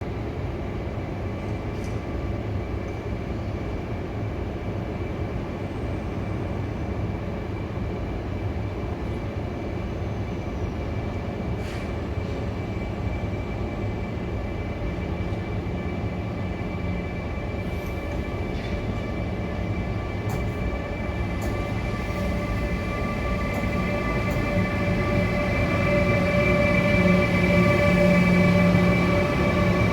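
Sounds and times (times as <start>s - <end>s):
electric locomotive rumbling: 0.1s - 29.9s.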